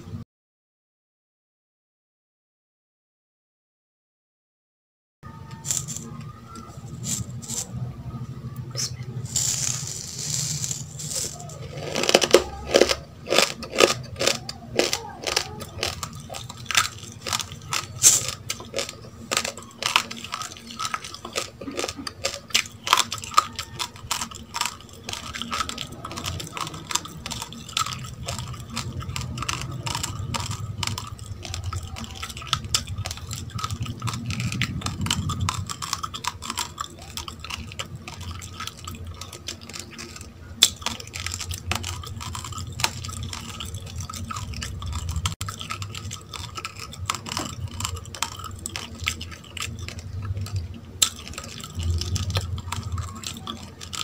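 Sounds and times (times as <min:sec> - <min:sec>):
low steady hum: 0:05.3 - 0:54.0
chewing crunchy rice grains: 0:05.4 - 0:54.0.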